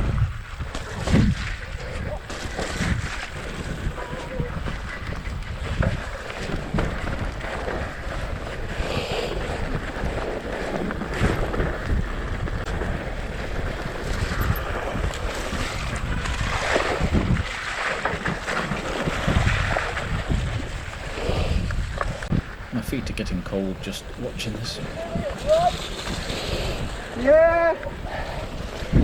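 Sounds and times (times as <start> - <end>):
bike rattling over rough ground: 0.0 - 29.0
wind on microphone: 0.0 - 29.0.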